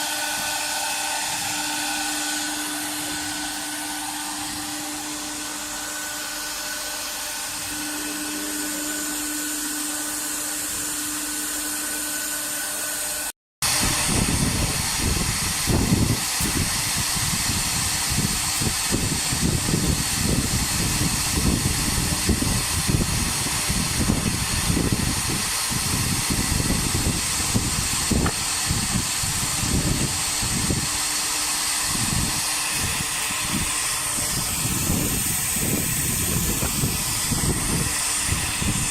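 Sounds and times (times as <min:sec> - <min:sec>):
router spindle hiss and whine: 0:00.0 - 0:38.9.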